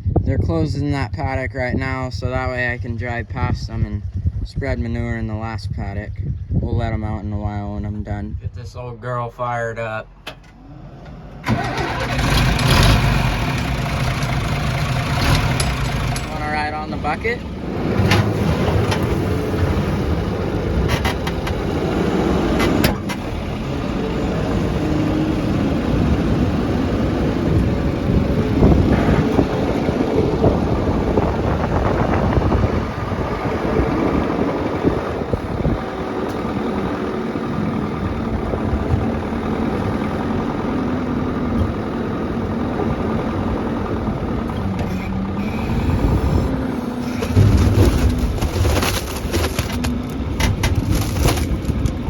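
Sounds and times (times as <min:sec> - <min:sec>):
tractor engine running: 0:09.2 - 0:52.0.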